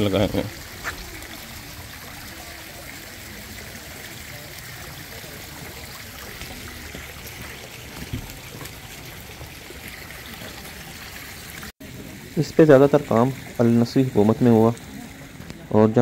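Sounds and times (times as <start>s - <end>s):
garden fountains trickling water: 0.0s - 16.0s.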